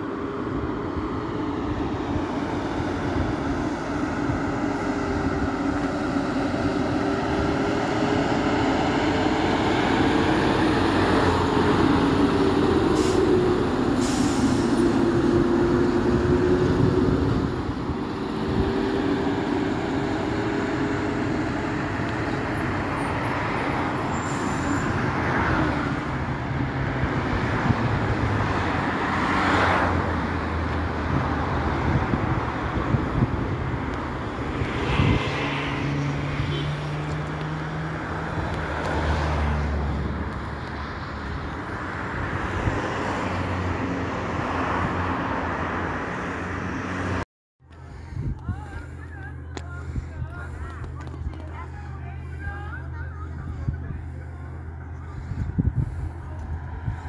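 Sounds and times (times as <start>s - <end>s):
truck passing: 0.0s - 57.0s
vehicle road and engine noise: 0.0s - 57.0s.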